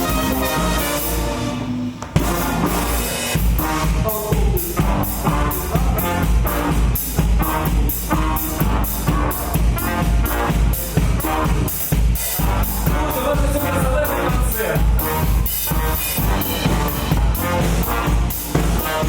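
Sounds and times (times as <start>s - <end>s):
drum kit beat: 0.0s - 19.0s
live rock band: 0.0s - 19.0s.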